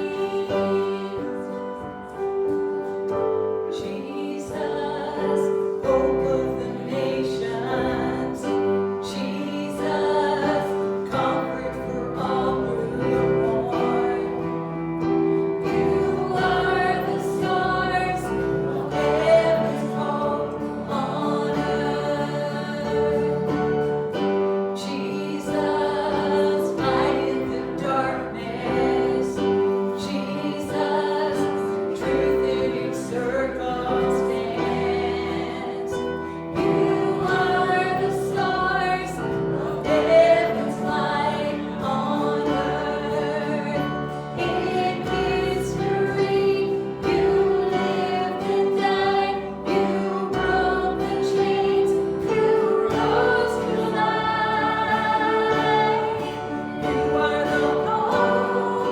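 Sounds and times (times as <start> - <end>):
group singing a hymn: 0.0 - 58.9
instrumental accompaniment: 0.0 - 58.9.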